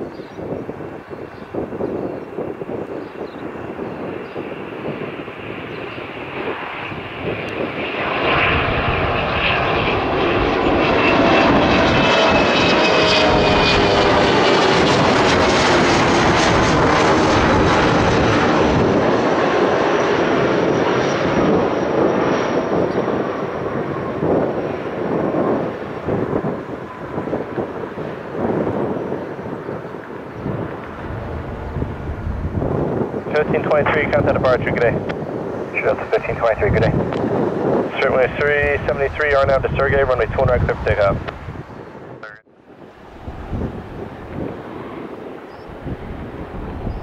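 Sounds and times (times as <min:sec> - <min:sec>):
jet aircraft passing: 0:00.0 - 0:47.0.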